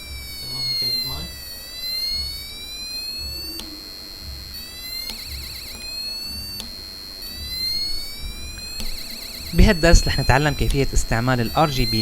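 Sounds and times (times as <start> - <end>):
steady high beep: 0.0 - 3.6, 4.2 - 12.0
fast warble: 0.0 - 12.0
piezo buzzer siren wail: 0.0 - 12.0.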